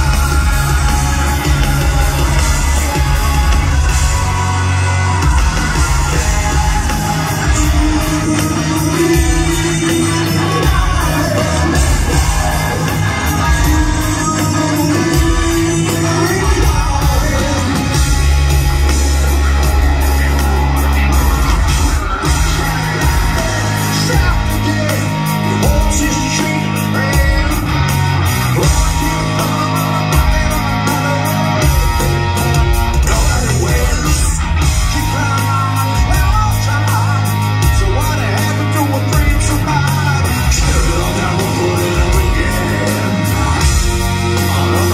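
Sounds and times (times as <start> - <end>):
bass guitar: 0.0 - 44.9
drums: 0.0 - 44.9
electric guitars: 0.0 - 44.9
man singing lead vocals: 0.0 - 44.9.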